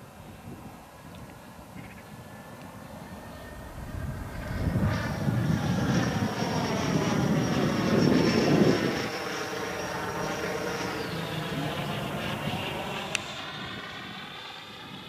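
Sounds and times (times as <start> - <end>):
model jet fan whine: 0.0 - 15.0.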